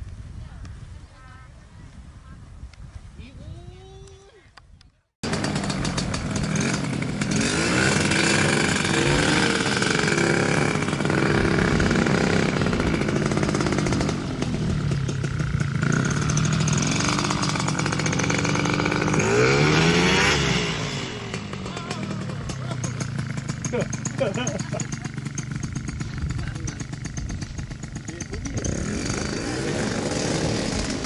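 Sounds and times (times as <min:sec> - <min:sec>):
paramotor engine buzzing: 0:05.2 - 0:31.0.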